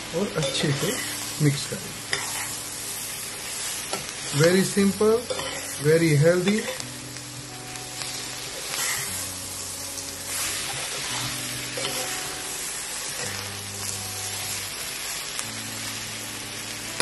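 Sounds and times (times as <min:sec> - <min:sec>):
soft background music: 0:00.0 - 0:17.0
vegetables sizzling in a pot: 0:00.0 - 0:17.0.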